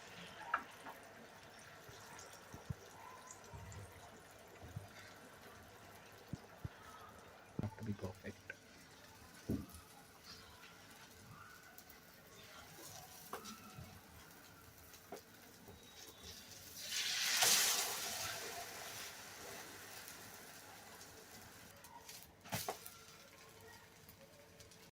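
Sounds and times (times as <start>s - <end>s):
omelette sizzling in a pan: 0.0s - 24.9s.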